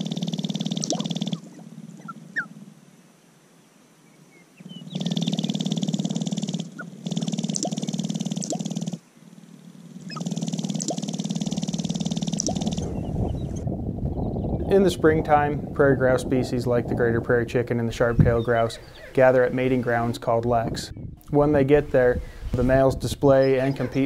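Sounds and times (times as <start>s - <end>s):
grouse rattling buzz: 0.0s - 24.0s.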